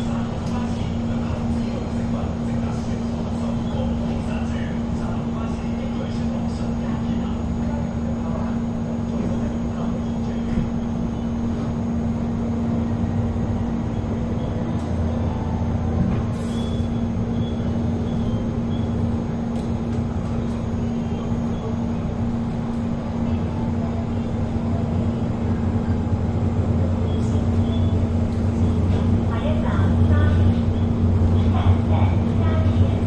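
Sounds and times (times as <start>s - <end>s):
constant hum: 0.0s - 33.0s
train cabin rumble: 0.0s - 33.0s.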